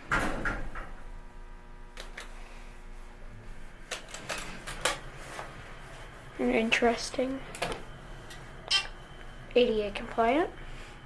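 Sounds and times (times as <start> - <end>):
elevator machinery hum: 0.0 - 11.0.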